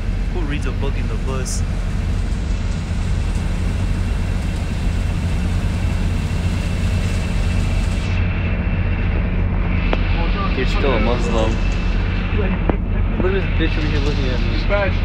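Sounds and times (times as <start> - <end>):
bus engine hum: 0.0 - 15.0
road rumble: 0.0 - 15.0.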